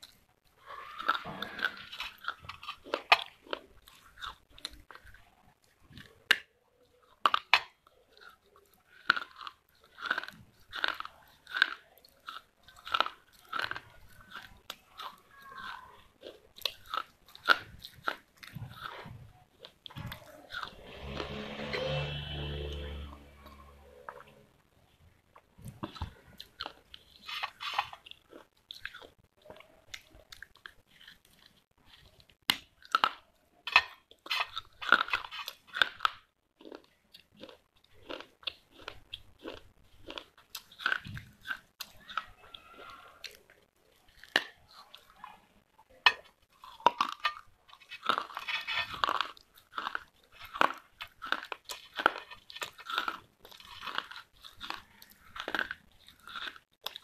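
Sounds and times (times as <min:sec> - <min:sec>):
quiet chewing: 0:00.0 - 0:20.8, 0:24.1 - 0:57.0
clay crunching between teeth: 0:00.0 - 0:21.2, 0:25.4 - 0:57.0.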